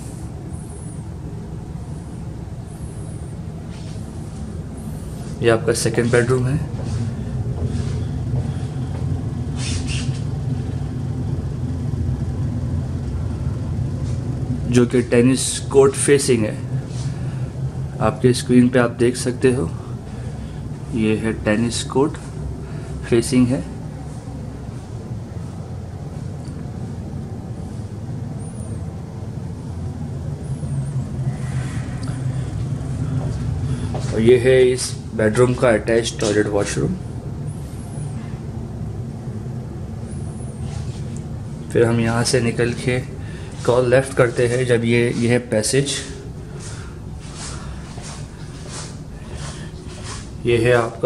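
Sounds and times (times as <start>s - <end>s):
low background rumble: 0.0s - 51.0s.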